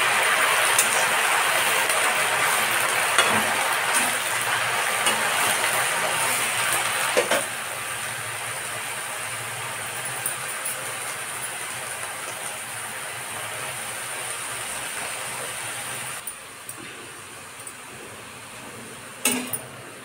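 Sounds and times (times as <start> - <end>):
greens sizzling in a pan: 0.0 - 20.0.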